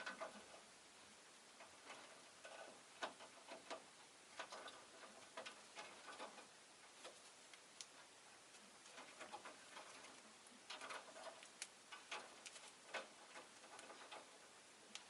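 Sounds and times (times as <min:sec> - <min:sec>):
birds clicking and tapping in cage: 0:00.0 - 0:00.6, 0:01.6 - 0:15.0.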